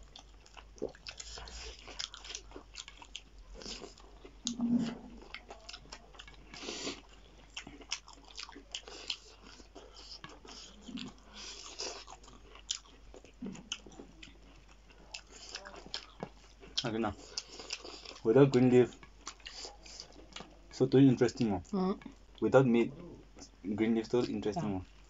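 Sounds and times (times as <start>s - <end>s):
people chewing food: 0.0s - 25.0s.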